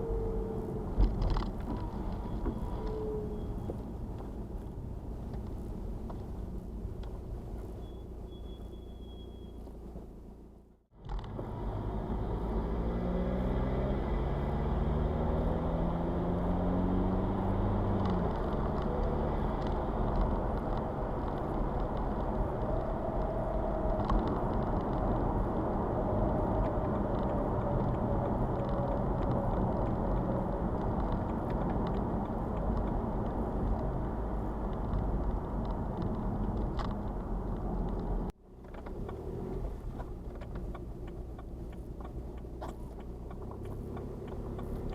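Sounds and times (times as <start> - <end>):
diesel car engine: 0.0 - 44.9.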